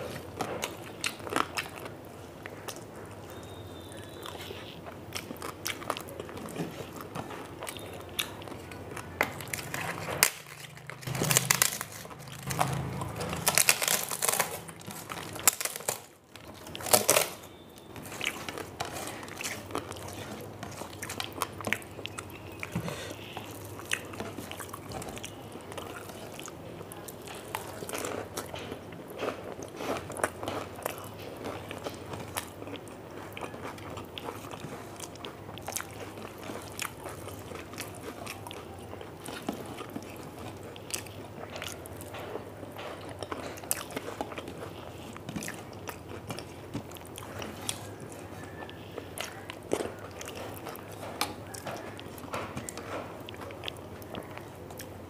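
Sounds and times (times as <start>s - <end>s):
person chewing crisp fried food: 0.0s - 55.0s.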